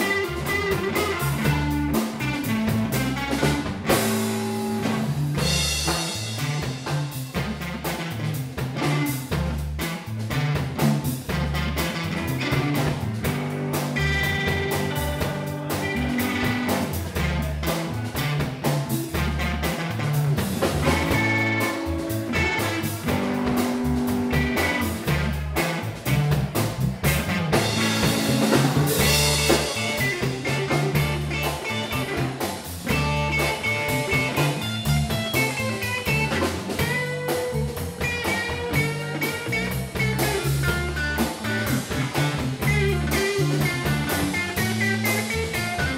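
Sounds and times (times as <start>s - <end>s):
drum kit: 0.0s - 45.9s
electric bass: 0.0s - 45.9s
electric guitar lead lines: 0.0s - 45.9s.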